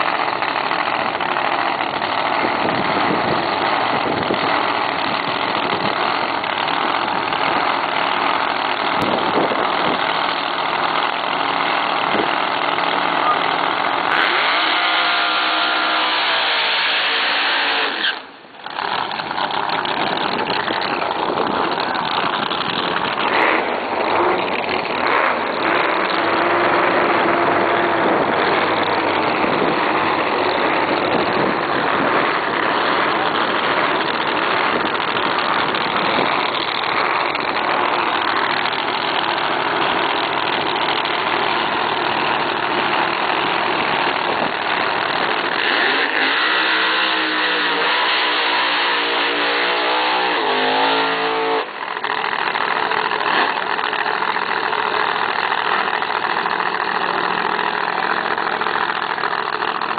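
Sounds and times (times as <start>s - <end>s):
loud drag racing car engines: 0.0s - 59.9s.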